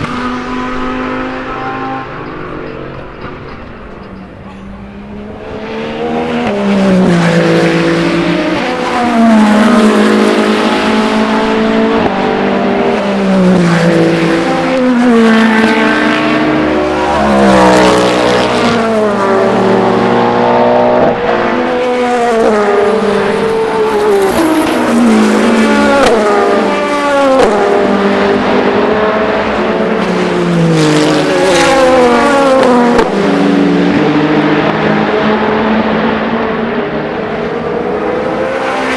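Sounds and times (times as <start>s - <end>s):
race car engines downshifting: 0.0s - 38.9s.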